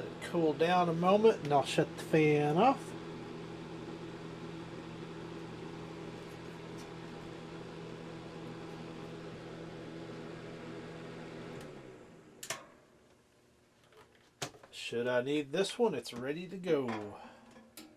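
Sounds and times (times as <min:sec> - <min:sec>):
heater fan humming: 0:00.0 - 0:17.9.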